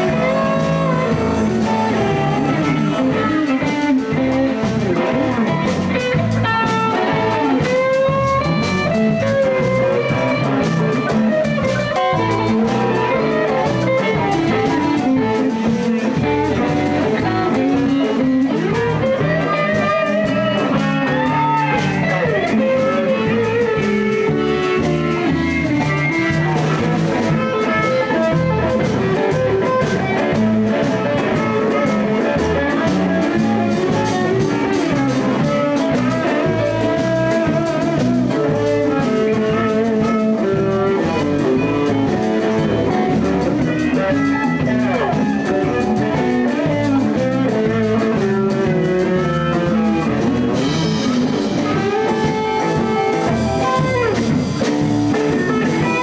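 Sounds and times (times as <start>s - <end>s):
blues band playing: 0.0s - 56.0s.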